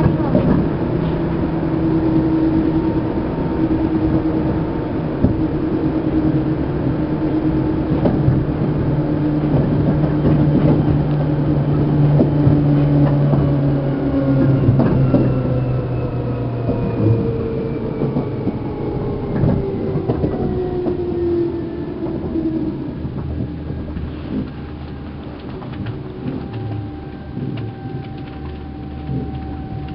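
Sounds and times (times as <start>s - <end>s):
electric train motors whining: 0.0s - 29.9s
wheel clatter on rail joints: 0.0s - 29.9s.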